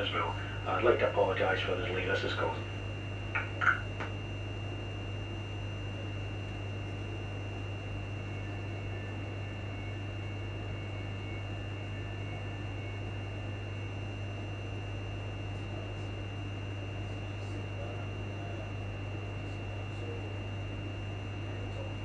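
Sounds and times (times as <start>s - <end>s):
low electrical drone: 0.0s - 22.0s
thin high whine: 0.0s - 22.0s.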